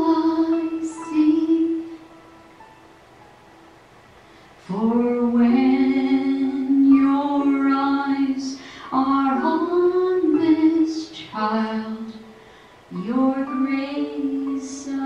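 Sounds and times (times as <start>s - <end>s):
woman singing a slow worship song: 0.0s - 2.1s, 4.6s - 15.0s.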